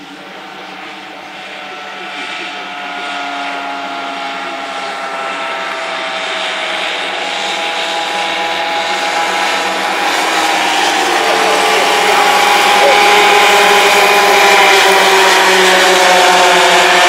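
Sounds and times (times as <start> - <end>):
racing karts high engine buzz: 0.0 - 17.0.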